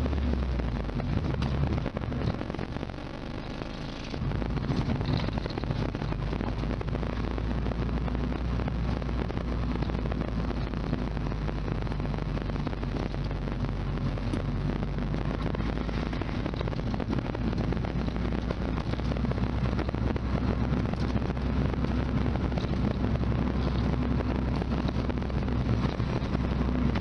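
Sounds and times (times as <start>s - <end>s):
car engine running: 0.0s - 27.0s
road noise: 0.0s - 27.0s.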